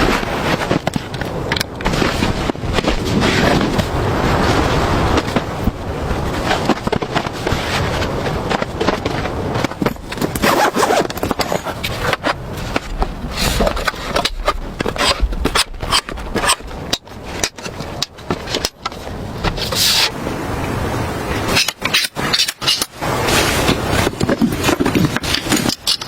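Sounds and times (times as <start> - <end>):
camping gear scraping and rustling: 0.0 - 26.0.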